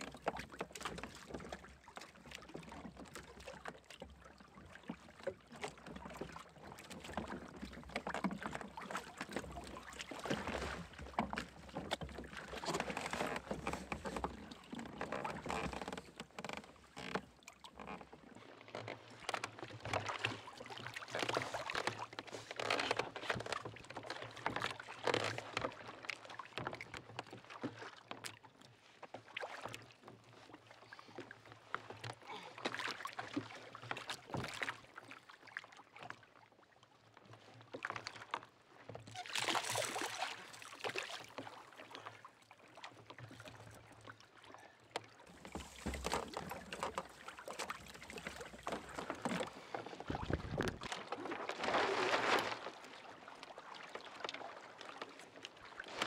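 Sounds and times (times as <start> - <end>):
water splashing against kayak hull: 0.0 - 56.0.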